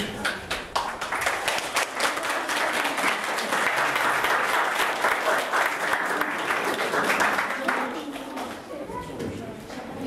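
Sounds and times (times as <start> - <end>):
audience applauding: 0.2 - 8.6.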